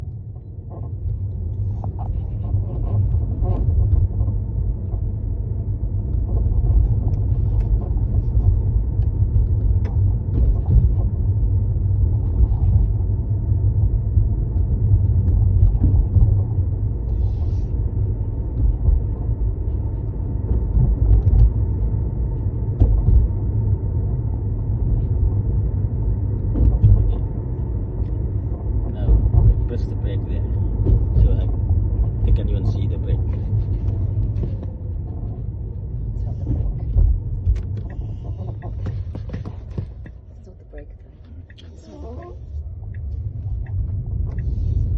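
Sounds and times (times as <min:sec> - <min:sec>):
car cabin creaks and ticks: 0:00.0 - 0:44.9
low road rumble: 0:00.0 - 0:44.9.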